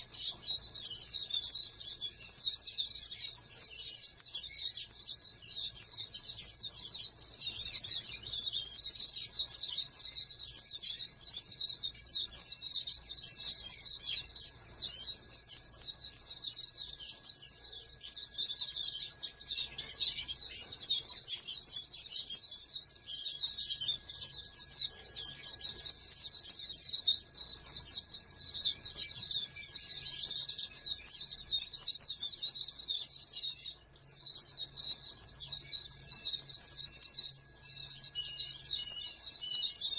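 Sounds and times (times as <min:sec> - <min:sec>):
songbird twittering: 0:00.0 - 0:39.9.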